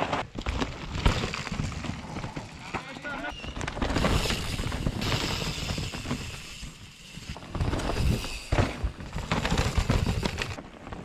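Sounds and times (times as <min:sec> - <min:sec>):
mountain bike clattering over trail: 0:00.0 - 0:11.0.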